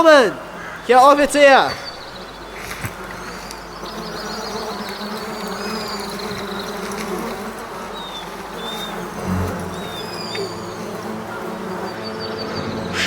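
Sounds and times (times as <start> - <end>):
bird chirps: 0.0 - 13.0
buzzing hum: 2.2 - 13.0.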